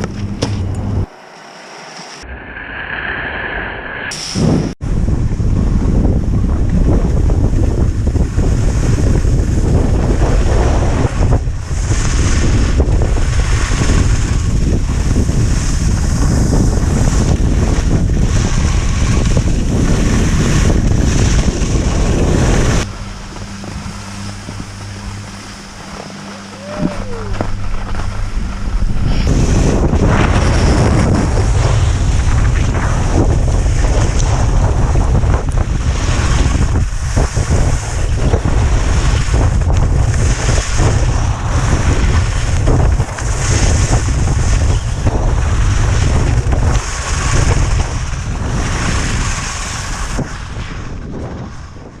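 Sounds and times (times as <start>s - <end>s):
wind buffeting microphone: 4.1s - 52.0s.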